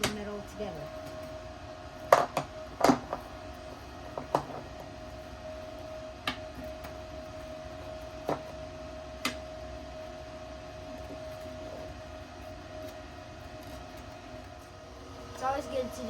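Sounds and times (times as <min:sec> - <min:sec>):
faint hum with thin tone: 0:00.0 - 0:16.0.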